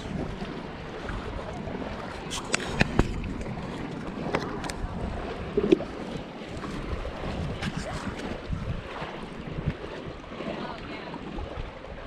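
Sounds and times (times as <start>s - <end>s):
water washing: 0.0s - 12.0s
wind buffeting microphone: 0.0s - 12.0s.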